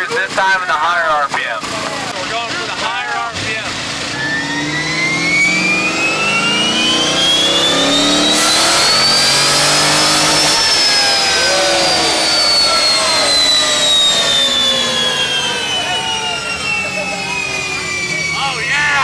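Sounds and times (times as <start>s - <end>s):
car engine revving on a dyno: 1.7s - 19.0s.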